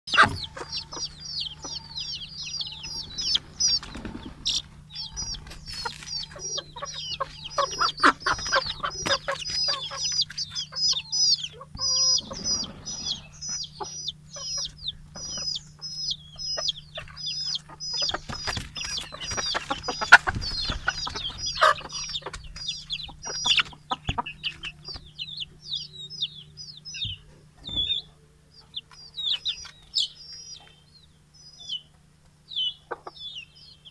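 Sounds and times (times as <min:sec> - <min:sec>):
hens clucking: 0:00.1 - 0:30.8, 0:31.6 - 0:33.9
chicks peeping: 0:00.1 - 0:33.9
steady low hum: 0:00.1 - 0:33.9.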